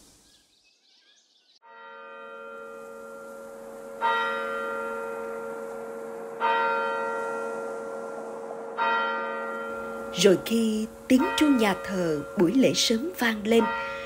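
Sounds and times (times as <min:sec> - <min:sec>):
church bell tolling: 0:01.6 - 0:14.0.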